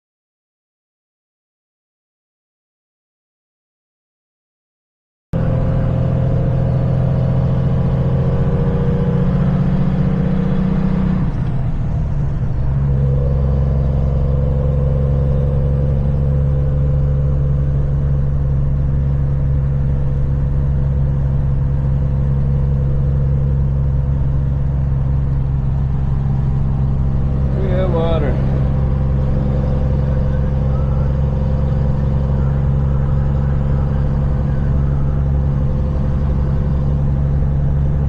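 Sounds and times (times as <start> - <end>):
truck diesel engine droning: 5.4 - 38.0.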